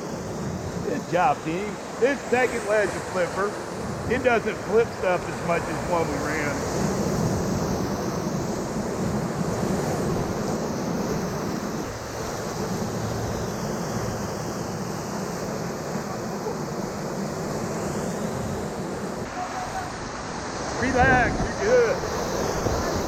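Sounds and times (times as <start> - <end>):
river rapid rushing: 0.0 - 14.7, 15.4 - 23.0
wind buffeting microphone: 0.0 - 23.0.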